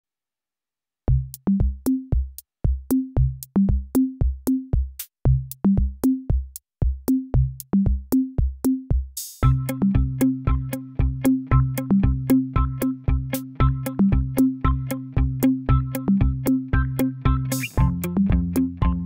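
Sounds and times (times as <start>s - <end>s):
drum-machine beat: 1.1s - 19.0s.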